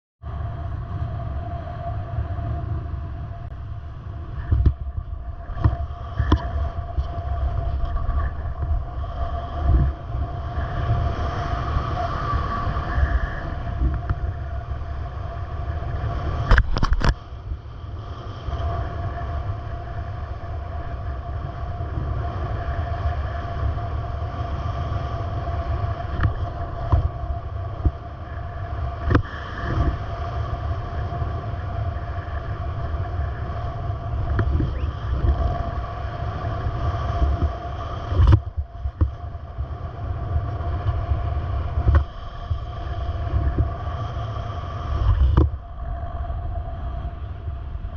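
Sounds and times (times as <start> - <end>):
steady whine: 0.2 - 47.9
vehicle engine rumble: 0.2 - 47.9.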